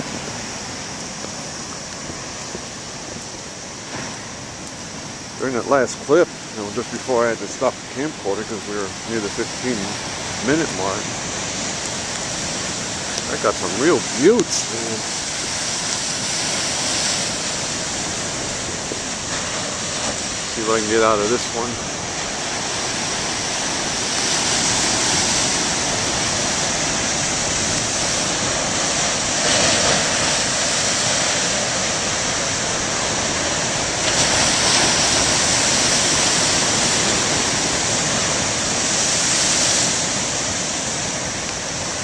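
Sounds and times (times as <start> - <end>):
storm waves breaking in surf: 0.0 - 42.0.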